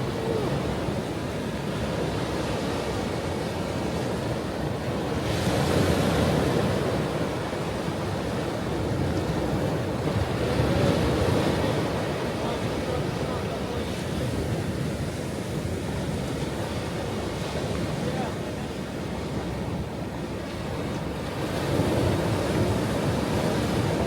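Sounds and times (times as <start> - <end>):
ocean surf rushing: 0.0 - 24.0.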